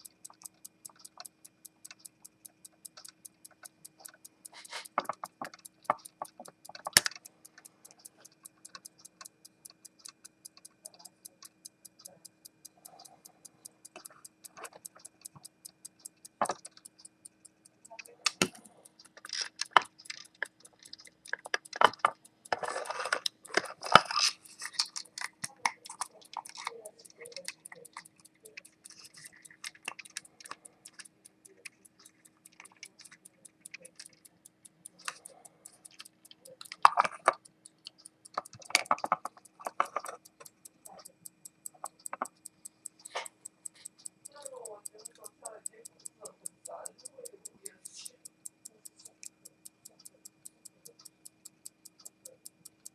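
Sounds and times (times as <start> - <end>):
pocket watch ticking: 0.0 - 52.9
hands rustling and clicking: 2.7 - 46.4.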